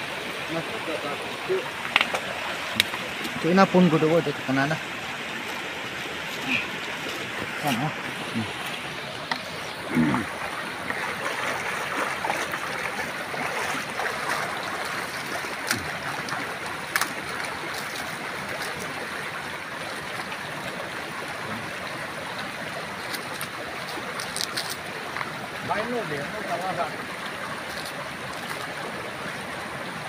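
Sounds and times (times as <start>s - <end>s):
splashes of leaves being rinsed: 0.0s - 29.2s
stream running over stones: 0.0s - 30.0s.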